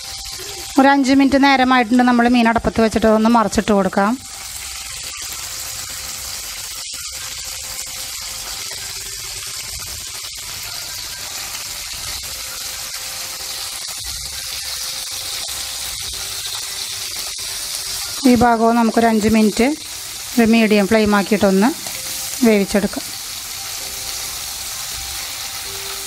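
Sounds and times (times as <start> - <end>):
fish sizzling in a pan: 0.0 - 26.0
spatula turning food: 4.2 - 26.0.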